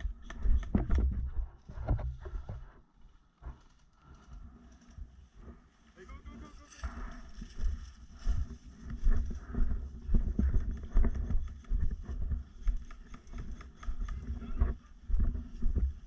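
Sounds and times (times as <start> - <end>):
footsteps: 0.0 - 16.0.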